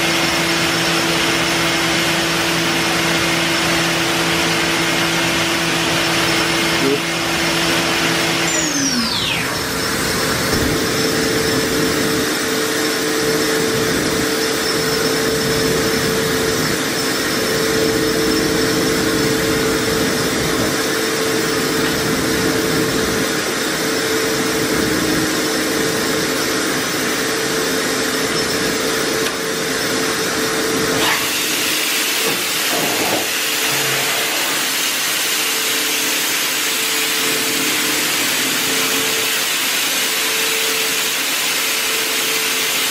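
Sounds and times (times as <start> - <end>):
spindle whine slowing: 0.0 - 42.7
machine hum and hiss: 0.0 - 42.9.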